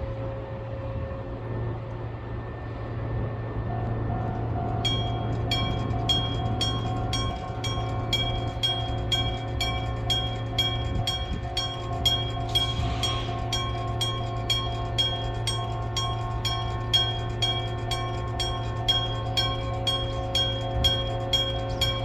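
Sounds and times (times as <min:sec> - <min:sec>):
steady low hum: 0:00.0 - 0:22.0
railway crossing bell striking: 0:03.7 - 0:22.0.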